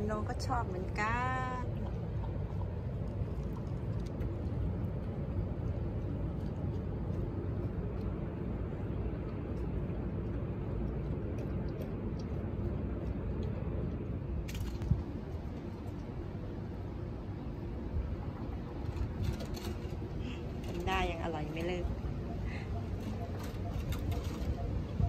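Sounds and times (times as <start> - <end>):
dog lapping: 0.0 - 25.0
steady low rumble: 0.0 - 25.0.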